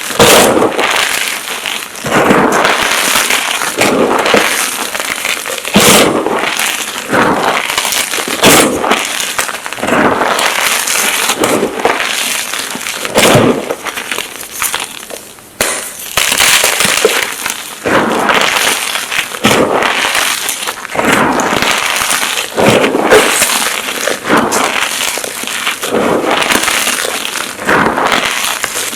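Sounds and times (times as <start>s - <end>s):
chalk crunching and crackling: 0.0s - 28.9s.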